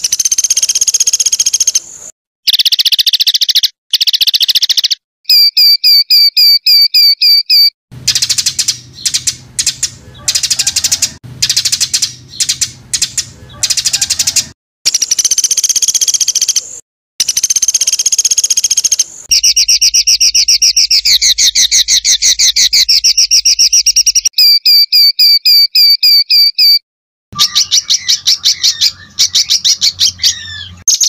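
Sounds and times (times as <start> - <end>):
songbird trills and notes: 0.0 - 26.8, 27.4 - 31.0.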